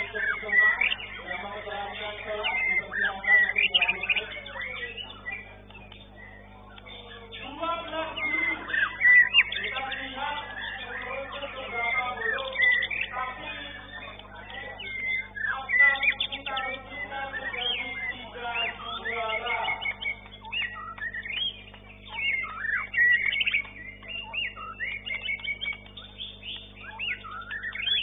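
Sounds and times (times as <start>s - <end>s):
birds singing whistles and trills: 0.0s - 28.0s
steady low hum: 0.0s - 28.0s.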